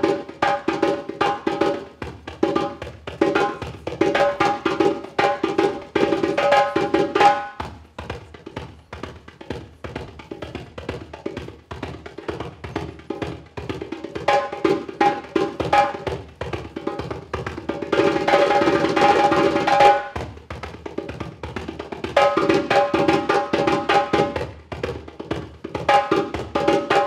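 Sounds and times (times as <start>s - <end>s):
hand drum solo: 0.0s - 27.0s.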